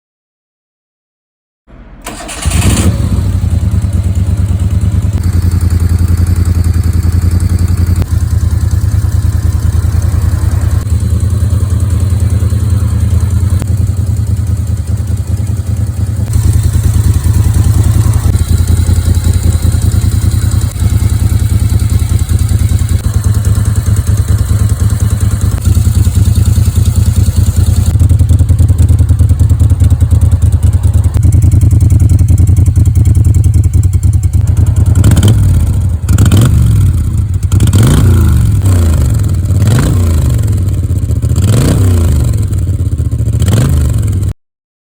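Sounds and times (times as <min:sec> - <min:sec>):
motorcycle engine revving: 0:02.0 - 0:44.4.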